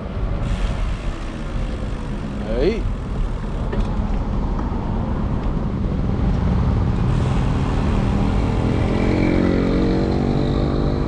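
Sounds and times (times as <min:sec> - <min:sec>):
road rumble: 0:00.0 - 0:11.0.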